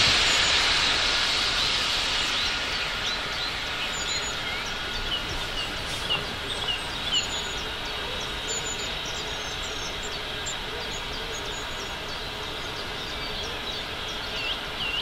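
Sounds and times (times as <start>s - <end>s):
steam hissing: 0.0s - 15.0s
small birds chirping: 1.5s - 15.0s.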